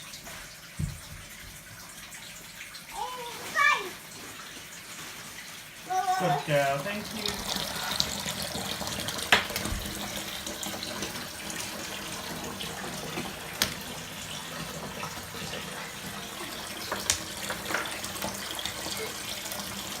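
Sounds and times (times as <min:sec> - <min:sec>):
water running from a tap: 0:00.0 - 0:20.0.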